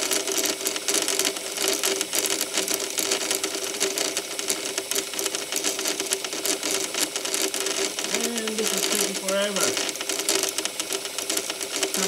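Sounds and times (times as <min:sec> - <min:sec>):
rapid mechanical clicking: 0:00.0 - 0:12.0
steady machine hum: 0:00.0 - 0:12.0.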